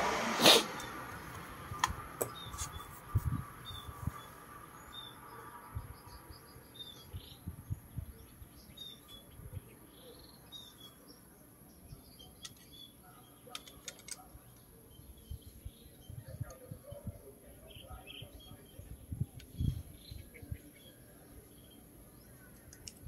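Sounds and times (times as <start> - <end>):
small birds chirping: 0.7 - 23.0.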